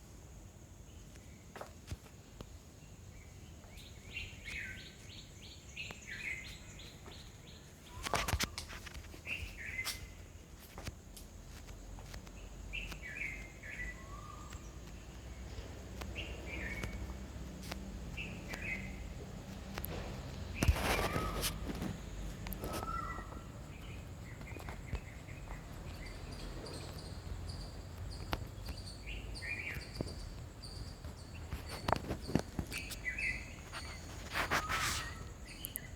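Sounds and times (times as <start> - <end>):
birds chirping: 0.8 - 35.9.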